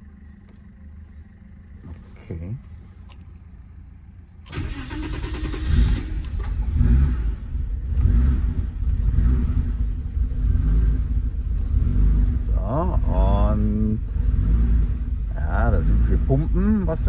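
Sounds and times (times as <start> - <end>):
car engine starting and idling: 0.0 - 17.0.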